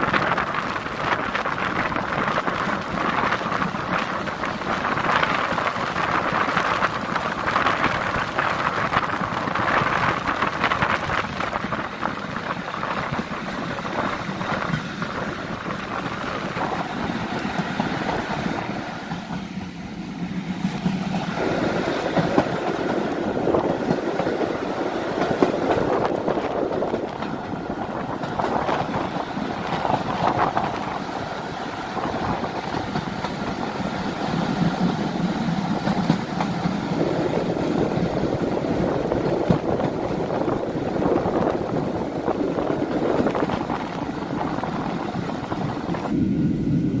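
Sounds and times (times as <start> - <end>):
rushing air: 0.0 - 47.0
wheel-on-rail noise: 0.0 - 47.0.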